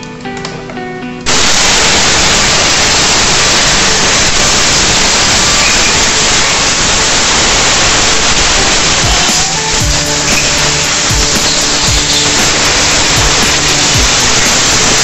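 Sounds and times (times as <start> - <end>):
pressurised spray hissing: 1.3 - 15.0.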